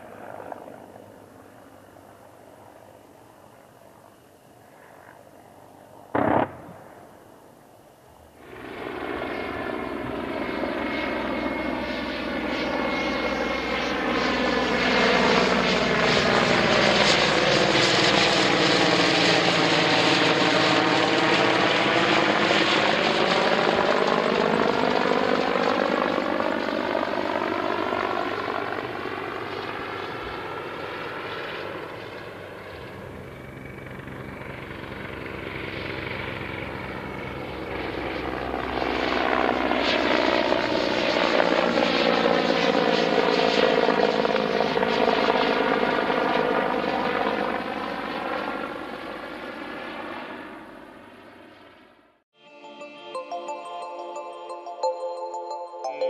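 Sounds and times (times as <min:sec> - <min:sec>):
helicopter rotor and turbine roar: 0:00.0 - 0:52.2.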